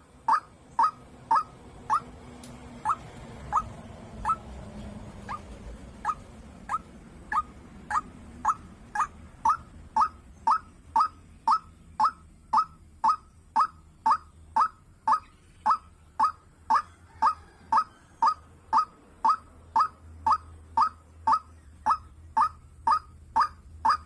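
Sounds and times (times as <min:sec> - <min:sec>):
waterhen calling: 0:00.0 - 0:02.1, 0:02.8 - 0:04.5, 0:05.2 - 0:24.0.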